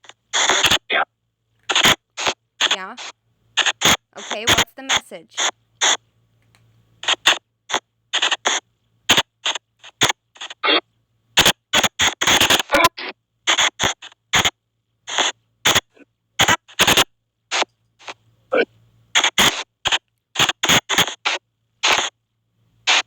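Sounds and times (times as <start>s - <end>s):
choppy bursts of static: 0.0s - 1.0s, 1.7s - 6.0s, 7.0s - 10.8s, 11.4s - 18.2s, 19.1s - 22.2s.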